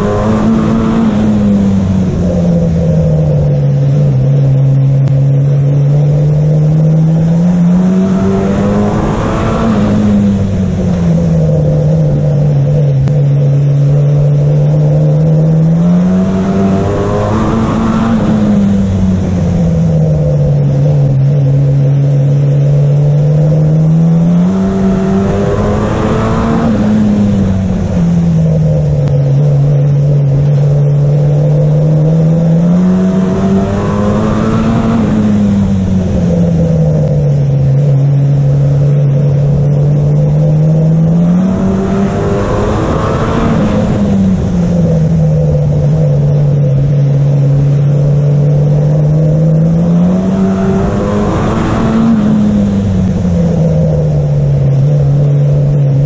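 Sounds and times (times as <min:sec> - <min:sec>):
racing car engine revving: 0:00.0 - 0:56.0
road and wind noise: 0:00.0 - 0:56.0.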